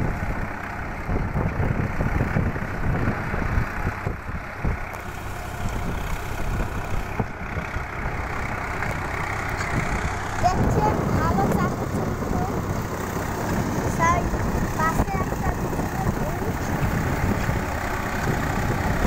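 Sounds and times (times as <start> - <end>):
diesel tractor engine under load: 0.0 - 19.0.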